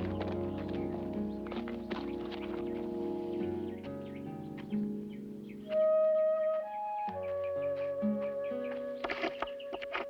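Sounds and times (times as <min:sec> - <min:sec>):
music with held notes: 0:00.0 - 0:10.0.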